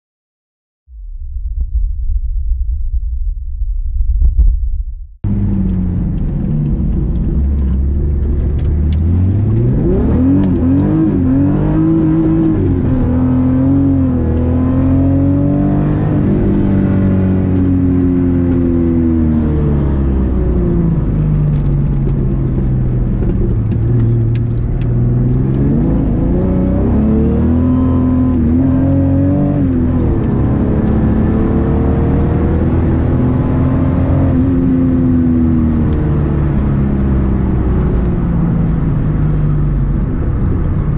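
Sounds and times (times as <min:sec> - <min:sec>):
car engine revving: 0:05.3 - 0:40.9.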